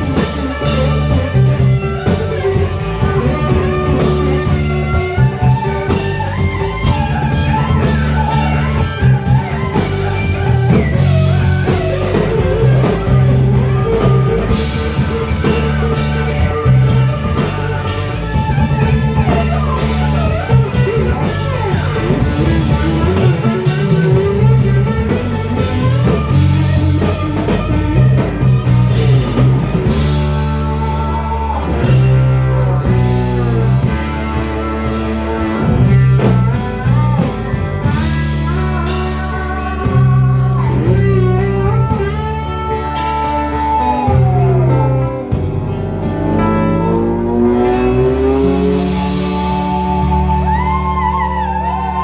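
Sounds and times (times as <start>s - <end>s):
country-rock band playing: 0.0s - 52.0s
guitar lead with bending notes: 0.0s - 52.0s.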